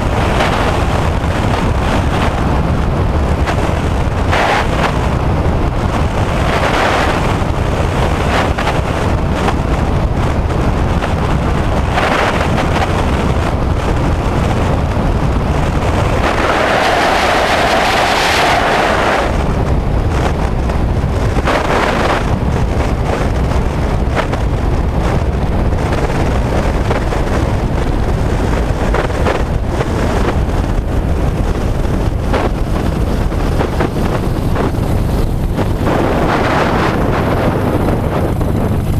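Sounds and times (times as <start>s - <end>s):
aircraft engine: 0.0s - 38.9s
wind rushing on microphone: 0.0s - 38.9s.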